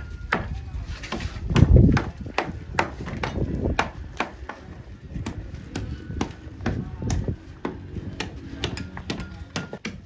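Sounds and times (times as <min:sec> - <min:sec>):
tools tapping on brick: 0:00.0 - 0:10.0.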